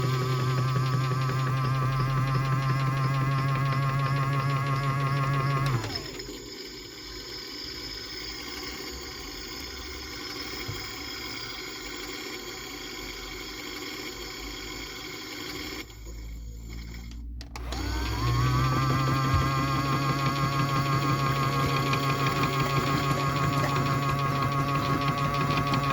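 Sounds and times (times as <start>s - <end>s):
washing machine motor whine: 0.0s - 25.9s.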